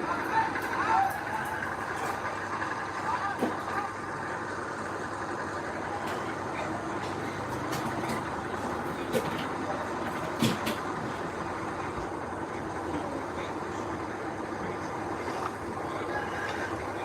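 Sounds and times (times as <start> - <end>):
diesel machinery running: 0.0 - 17.0.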